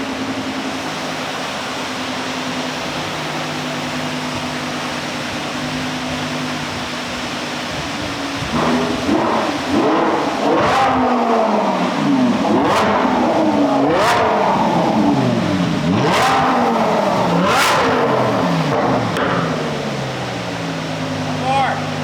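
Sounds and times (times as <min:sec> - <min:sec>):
sports car accelerating through gears: 0:00.0 - 0:22.0.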